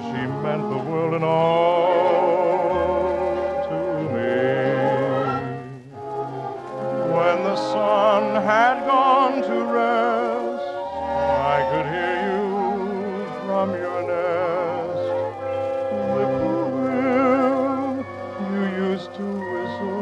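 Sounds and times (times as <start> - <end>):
orchestral music: 0.0 - 20.0
vibrato operatic melody: 0.0 - 20.0.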